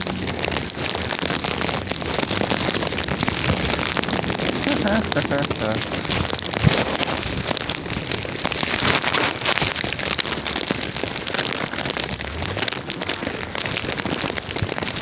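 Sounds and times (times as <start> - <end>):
sleet pattering: 0.0 - 15.0.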